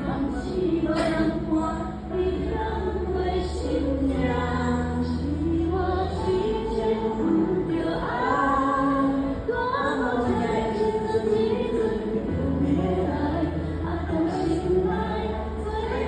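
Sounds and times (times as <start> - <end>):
woman singing pop ballad: 0.0 - 16.0.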